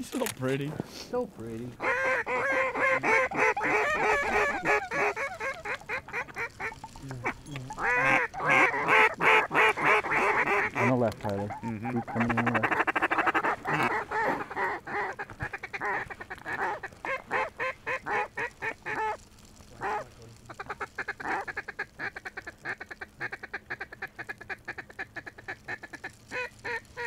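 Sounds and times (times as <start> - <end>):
duck calls quacking: 1.8 - 19.2, 19.8 - 27.0.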